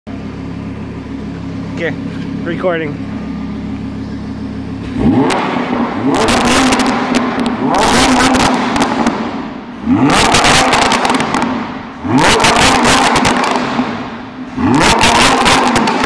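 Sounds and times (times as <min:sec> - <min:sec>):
car engine revving: 0:00.1 - 0:16.0
exhaust crackles: 0:00.2 - 0:16.0.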